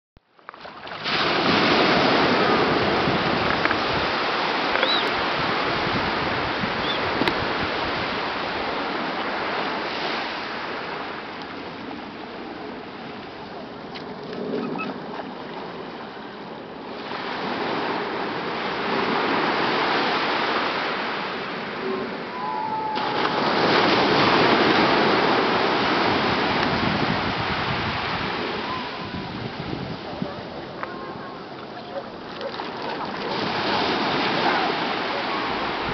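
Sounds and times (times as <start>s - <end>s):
ocean surf washing onto beach: 0.8s - 35.9s.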